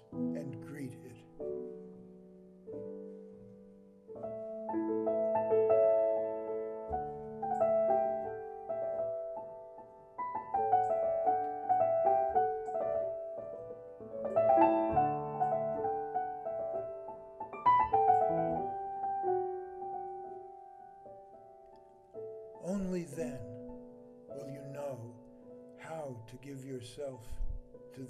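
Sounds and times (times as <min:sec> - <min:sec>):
solo piano: 0:00.0 - 0:28.0.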